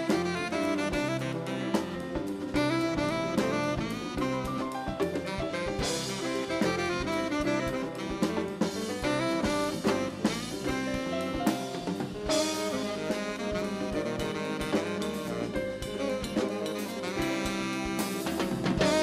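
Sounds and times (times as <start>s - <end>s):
drum kit: 0.0s - 19.0s
jazz band playing: 0.0s - 19.0s
saxophone melody: 0.0s - 19.0s.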